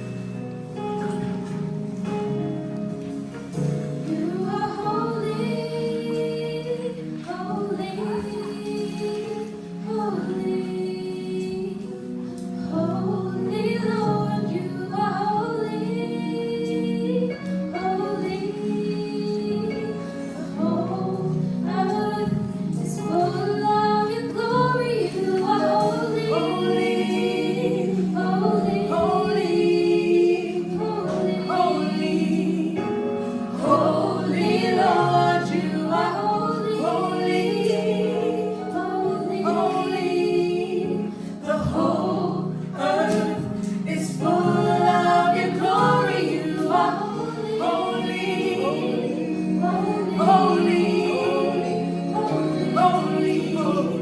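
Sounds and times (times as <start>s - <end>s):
choir singing gospel: 0.0s - 54.0s
instrumental accompaniment: 0.0s - 54.0s.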